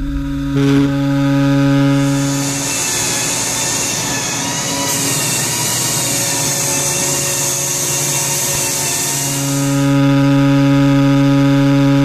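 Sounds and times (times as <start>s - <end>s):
dust extraction pulling air: 0.0s - 12.0s
router spindle cutting: 0.0s - 12.0s.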